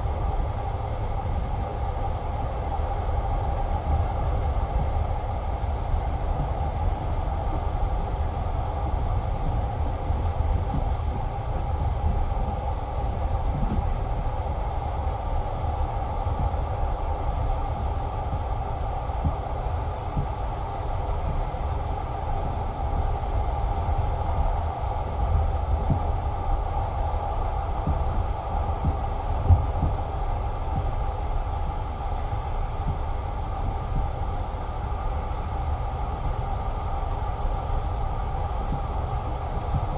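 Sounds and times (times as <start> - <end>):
train wheels rolling on rails: 1.4 - 39.9.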